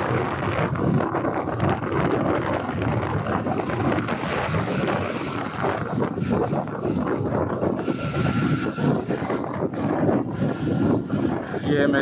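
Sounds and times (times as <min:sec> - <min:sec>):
motorcycle engine: 0:00.0 - 0:12.0
road noise: 0:00.0 - 0:12.0
wind buffeting microphone: 0:00.0 - 0:12.0.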